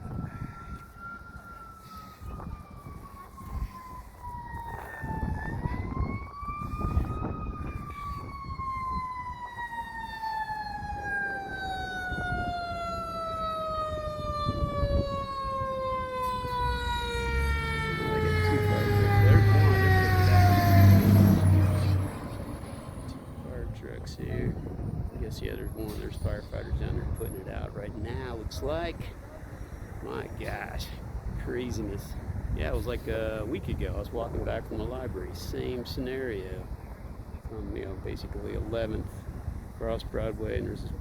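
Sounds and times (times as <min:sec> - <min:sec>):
fire engine siren wailing: 0:00.0 - 0:41.0.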